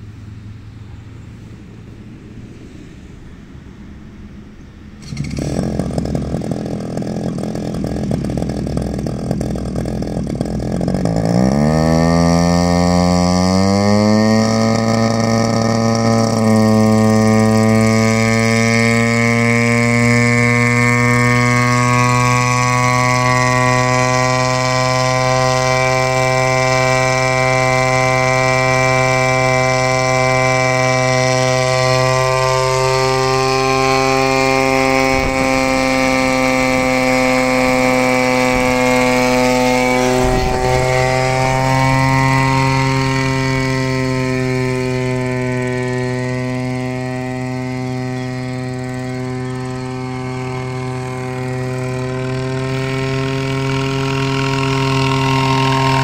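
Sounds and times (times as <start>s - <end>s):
helicopter rotor spooling up: 0.0s - 56.0s
small engine starting: 5.0s - 56.0s.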